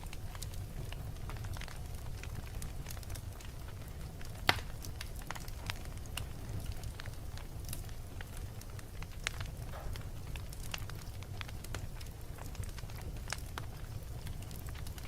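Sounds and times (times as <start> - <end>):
fire crackling: 0.0 - 15.0
fire popping: 0.0 - 15.0
fireplace fire rumbling: 0.0 - 15.0.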